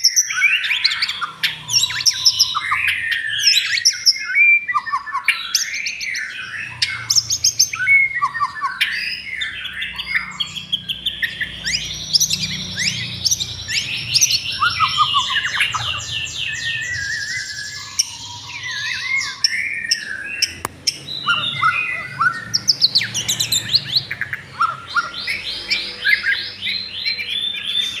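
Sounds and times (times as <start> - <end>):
birds chirping and singing: 0.0 - 28.0.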